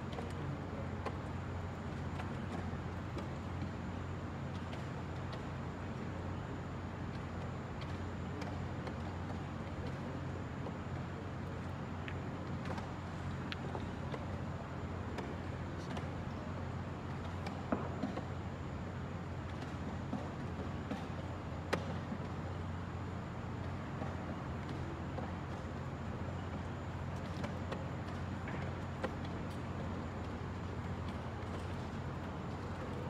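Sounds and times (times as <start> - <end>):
low room hum and rumble: 0.0 - 33.0.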